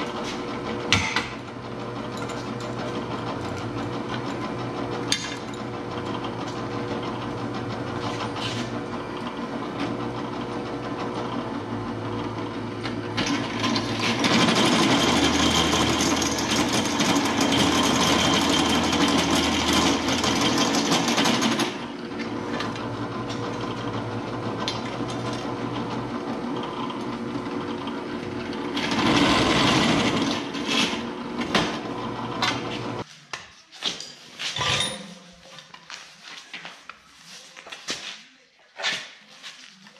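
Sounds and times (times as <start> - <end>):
drill press motor running: 0.0 - 33.0.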